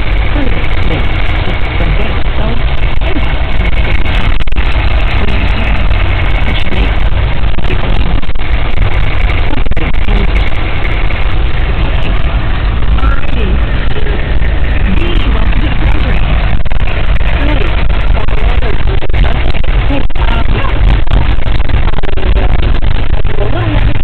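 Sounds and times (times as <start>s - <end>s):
engine and road noise: 0.0s - 24.0s.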